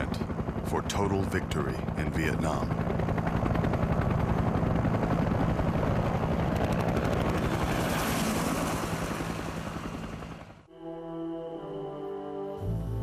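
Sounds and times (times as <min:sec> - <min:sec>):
helicopter rotors chopping: 0:00.0 - 0:10.7.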